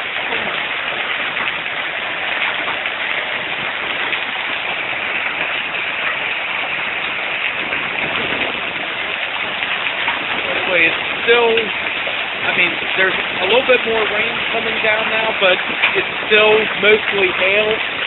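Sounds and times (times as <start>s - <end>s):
hail falling: 0.0s - 18.0s
rain: 0.0s - 18.0s.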